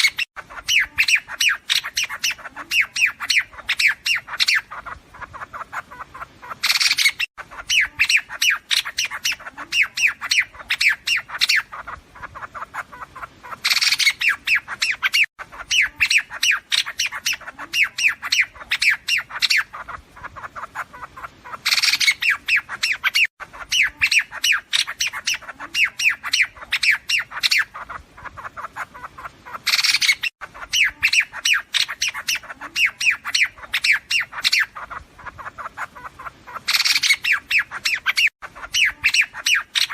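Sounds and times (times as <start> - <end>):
harsh rapid bird chattering: 0.0 - 39.9.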